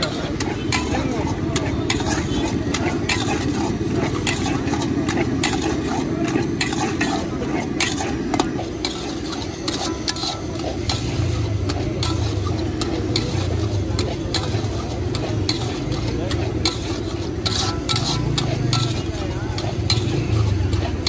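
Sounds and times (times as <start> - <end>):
spoon scraping metal pot: 0.0 - 21.0.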